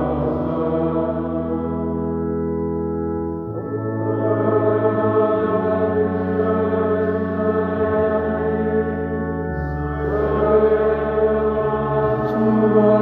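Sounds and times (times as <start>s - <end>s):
slow choral chant: 0.0s - 13.0s.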